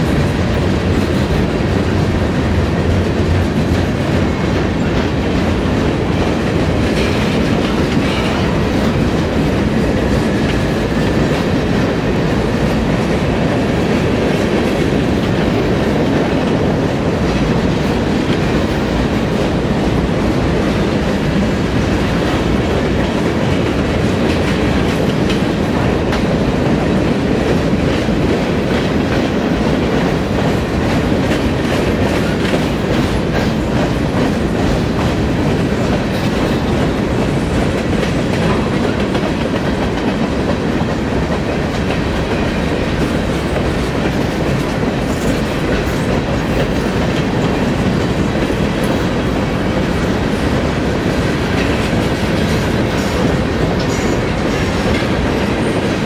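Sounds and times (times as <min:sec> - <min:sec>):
freight train cars rumbling past: 0:00.0 - 0:56.0
wheels clicking over rail joints: 0:00.0 - 0:56.0.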